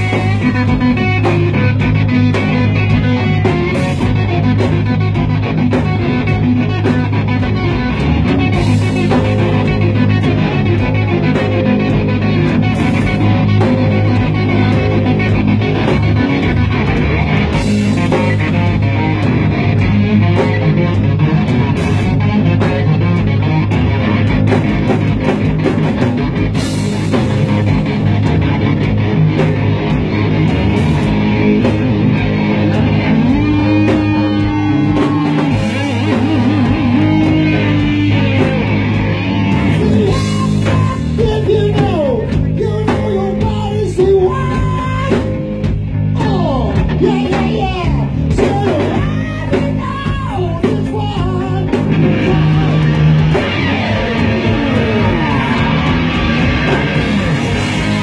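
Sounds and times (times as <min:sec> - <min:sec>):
electric guitar lead lines: 0:00.0 - 0:58.0
hard rock band playing: 0:00.0 - 0:58.0.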